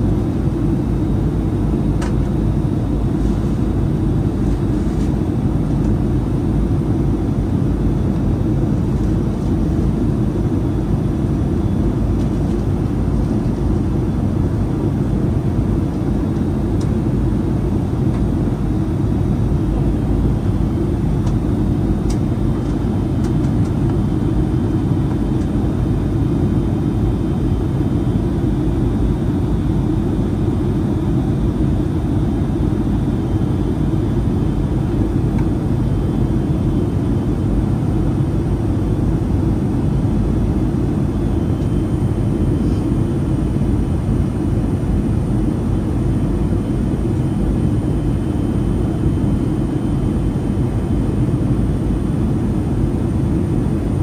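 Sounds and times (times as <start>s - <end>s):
jet engine cabin noise: 0.0s - 54.0s.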